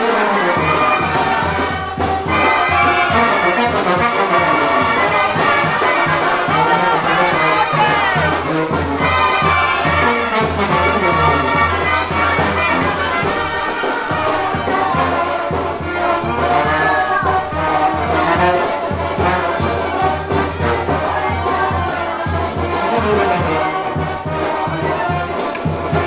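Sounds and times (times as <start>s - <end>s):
trumpets and trombones playing: 0.0s - 26.0s.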